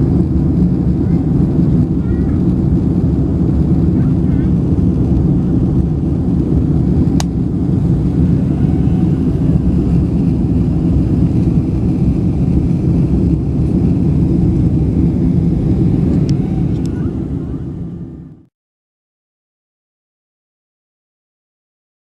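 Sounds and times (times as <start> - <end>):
jet engines rumbling in cabin: 0.0 - 18.5.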